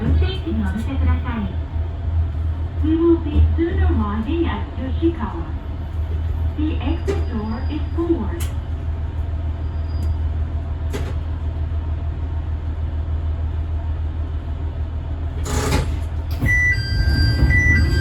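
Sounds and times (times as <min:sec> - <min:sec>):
diesel railcar engine humming: 0:00.0 - 0:18.0.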